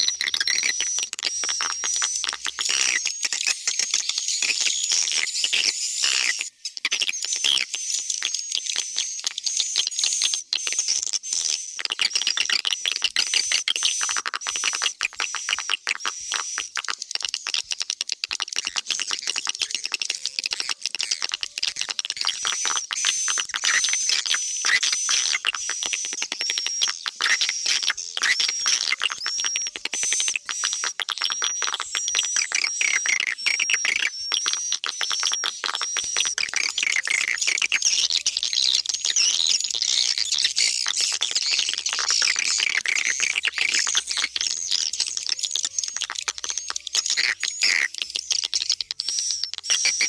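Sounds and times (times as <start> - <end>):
swiftlets twittering and clicking: 0.0 - 50.0.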